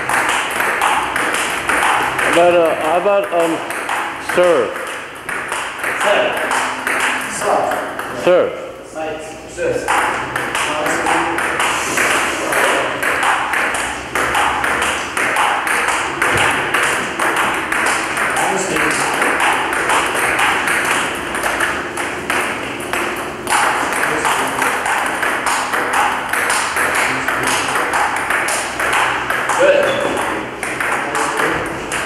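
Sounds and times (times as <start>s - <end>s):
table tennis ball clicking: 0.0s - 8.3s, 9.8s - 32.0s.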